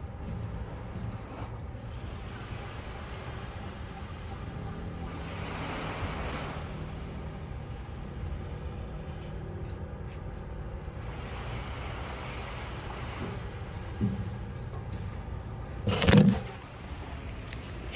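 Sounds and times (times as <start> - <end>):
sea waves breaking: 0.0 - 10.0, 10.6 - 17.9.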